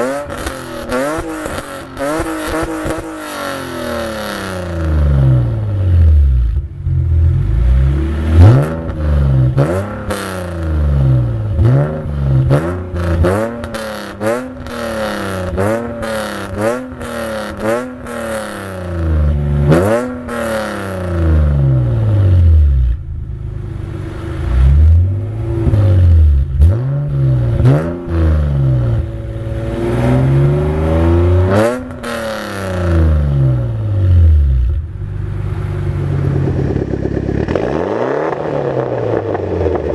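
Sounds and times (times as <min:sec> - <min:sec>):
exhaust popping and crackling: 0:00.0 - 0:05.8, 0:08.3 - 0:39.9
car engine revving: 0:00.0 - 0:39.9.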